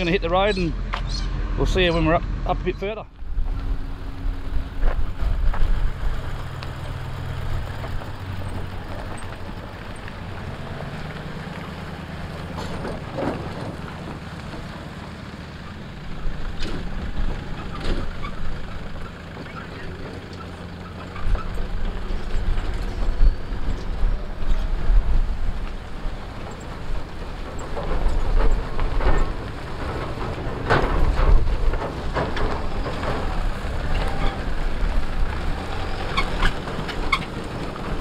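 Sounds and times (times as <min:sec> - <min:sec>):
vehicles driving slowly past: 0:00.0 - 0:38.0.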